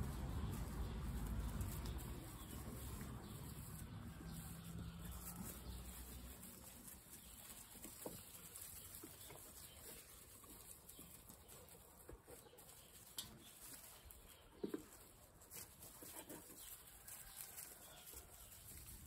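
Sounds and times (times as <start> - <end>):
puppies scuffling on hay: 0.0 - 19.0.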